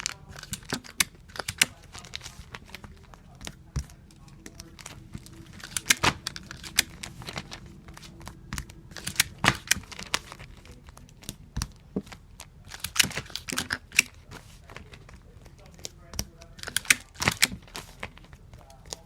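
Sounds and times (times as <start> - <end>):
paper crinkling: 0.0 - 19.0.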